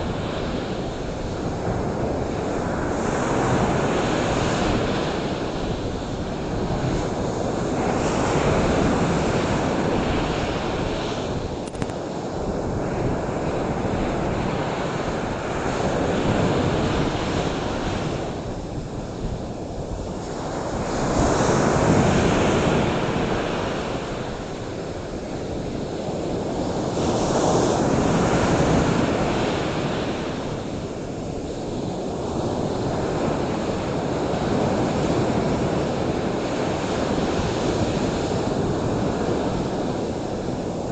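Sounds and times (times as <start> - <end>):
ocean surf breaking on shore: 0.0 - 40.9.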